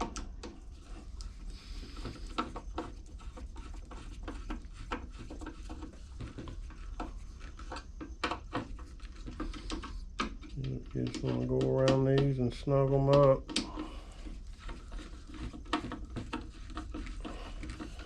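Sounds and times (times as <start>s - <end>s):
small parts clicking and tapping: 1.9s - 18.0s.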